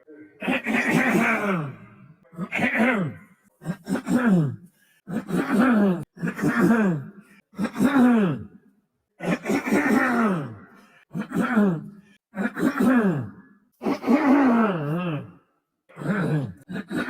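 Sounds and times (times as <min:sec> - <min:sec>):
man clearing throat and coughing: 0:00.3 - 0:08.5, 0:09.2 - 0:17.0.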